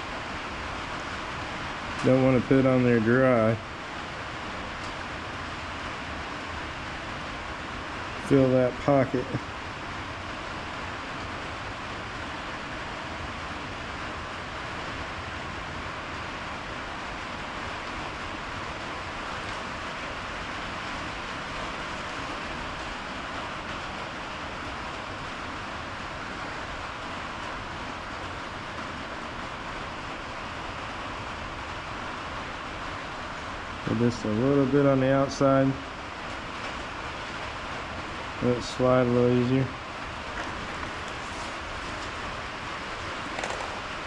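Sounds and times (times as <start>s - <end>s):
steady background noise: 0.0s - 44.0s.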